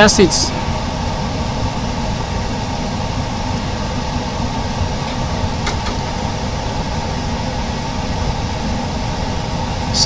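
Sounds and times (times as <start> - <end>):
machine hum and hiss: 0.0 - 10.0.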